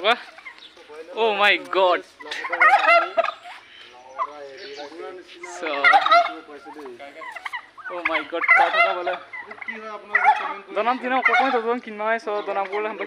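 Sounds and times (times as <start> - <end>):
turkeys gobbling: 0.0 - 13.0.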